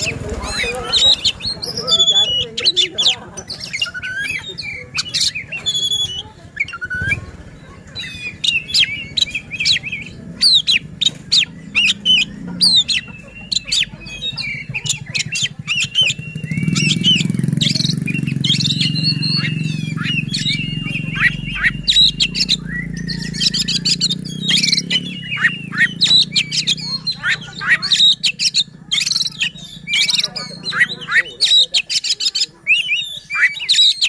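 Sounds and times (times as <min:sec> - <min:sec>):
bird singing chirps and whistles: 0:00.0 - 0:34.0.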